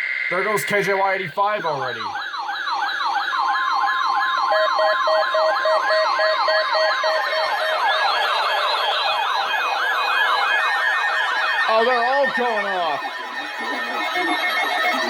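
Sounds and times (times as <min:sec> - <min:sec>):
electronic siren sweeping: 0:00.0 - 0:15.0
rapid beeping: 0:00.0 - 0:15.0
steady warning alarm tone: 0:00.0 - 0:15.0.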